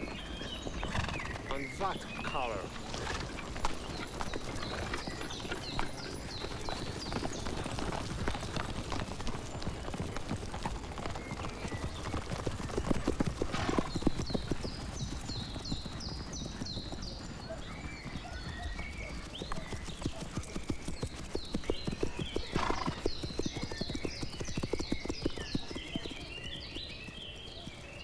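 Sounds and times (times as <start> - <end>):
horse hooves clip-clopping: 0.0 - 28.0.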